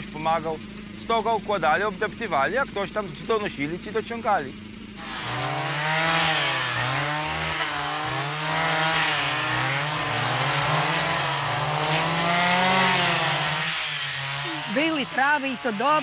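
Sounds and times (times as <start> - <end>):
small two-stroke engine running: 0.0 - 16.0.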